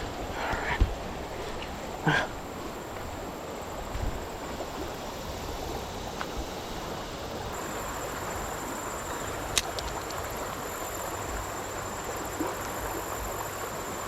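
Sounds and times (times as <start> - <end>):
creek water running: 0.0 - 14.0
faint high whine: 2.2 - 14.0.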